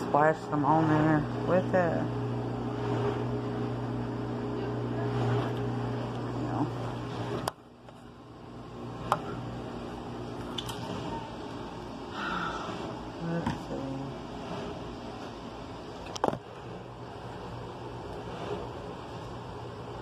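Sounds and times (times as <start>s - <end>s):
appliance motor humming: 0.0s - 20.0s.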